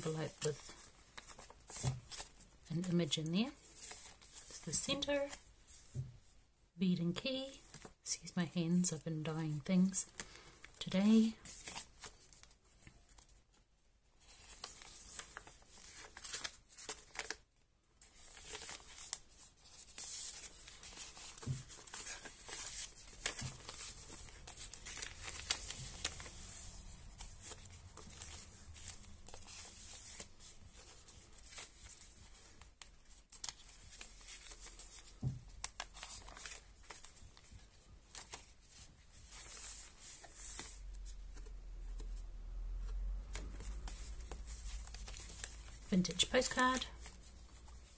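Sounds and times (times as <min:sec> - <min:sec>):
paper rustling and crinkling: 0:00.0 - 0:02.6, 0:03.5 - 0:06.0, 0:07.6 - 0:08.0, 0:10.0 - 0:13.5, 0:14.2 - 0:42.2, 0:42.8 - 0:47.9.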